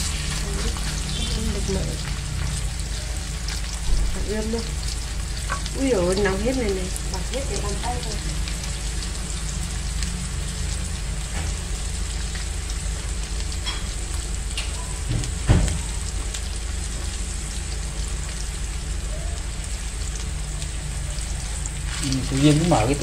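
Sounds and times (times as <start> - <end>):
meat sizzling in oil: 0.0 - 23.0.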